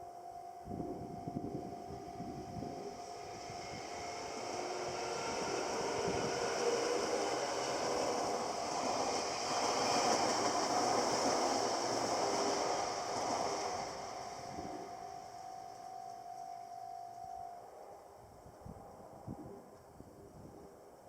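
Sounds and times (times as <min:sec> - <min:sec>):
crossing warning bell ringing: 0:00.0 - 0:18.5
train passing: 0:00.8 - 0:18.2.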